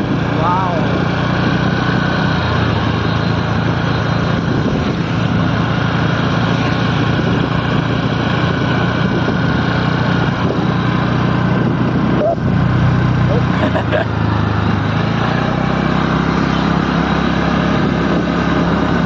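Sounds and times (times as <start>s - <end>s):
motor scooter engine running: 0.0s - 19.0s
road noise: 0.0s - 19.0s
rushing wind: 0.0s - 19.0s.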